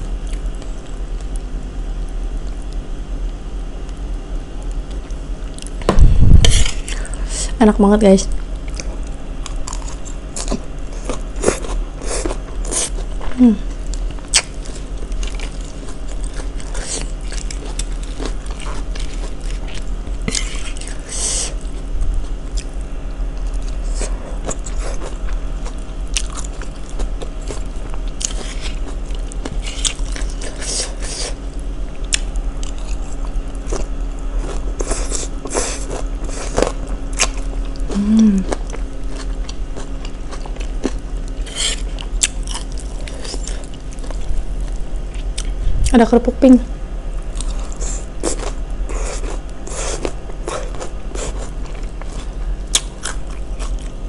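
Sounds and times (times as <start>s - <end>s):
steady low hum: 0.0s - 54.0s
chewing crisp vegetables: 8.2s - 31.4s, 32.0s - 46.3s, 47.2s - 54.0s.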